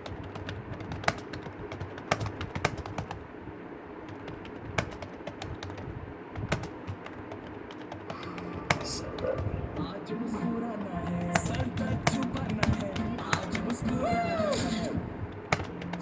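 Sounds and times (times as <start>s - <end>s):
keyboard typing: 0.0s - 3.4s, 4.0s - 16.0s.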